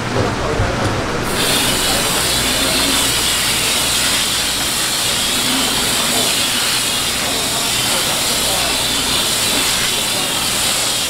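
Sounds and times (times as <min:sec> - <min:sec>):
hose water spraying on board: 0:01.2 - 0:11.0.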